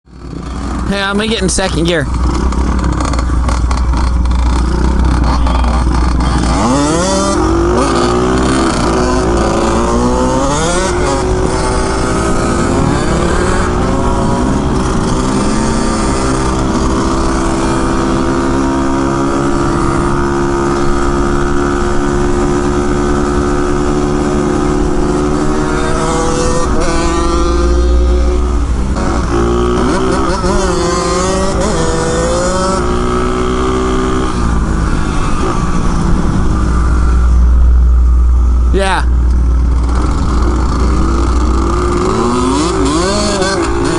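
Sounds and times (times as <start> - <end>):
motorbike engine revving through gears: 2.1 - 43.9.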